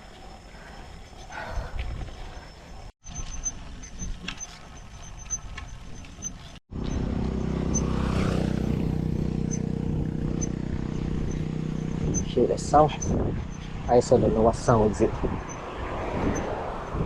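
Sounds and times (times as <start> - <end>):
bike high-pitched ticks: 0.0 - 17.0
motor vehicle engine running: 3.0 - 17.0.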